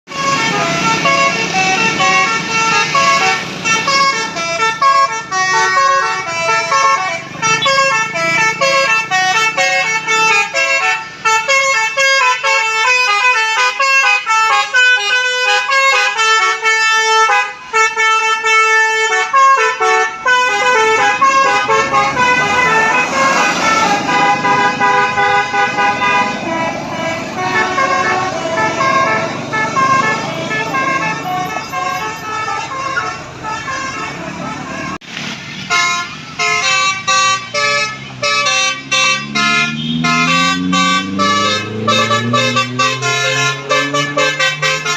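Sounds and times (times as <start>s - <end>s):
bus engine and road noise: 0.0s - 44.9s
musical air horn melody: 0.1s - 35.0s, 35.7s - 44.9s.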